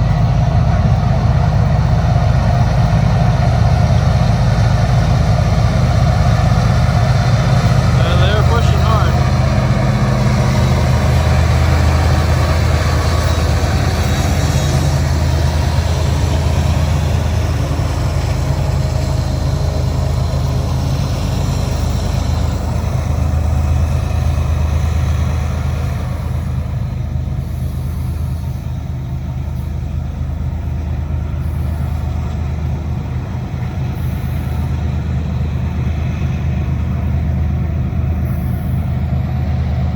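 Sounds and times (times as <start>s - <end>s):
diesel locomotive drone: 0.0s - 39.9s
train cars rumbling on rails: 0.0s - 39.9s.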